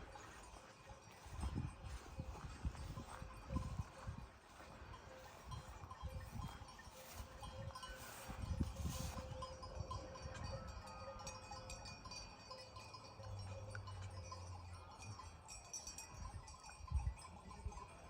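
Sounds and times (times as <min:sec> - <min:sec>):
small bells tinkling: 0:00.0 - 0:18.0.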